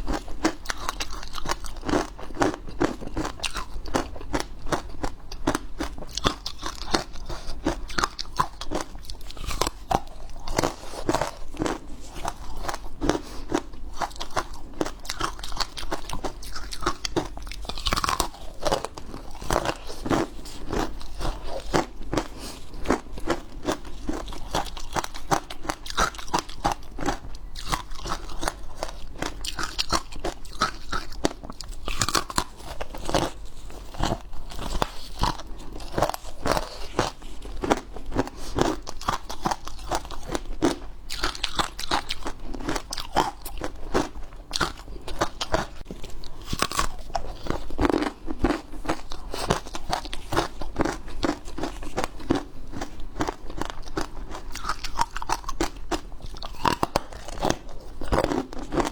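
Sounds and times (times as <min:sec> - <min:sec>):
person chewing ice: 0:00.0 - 0:58.9.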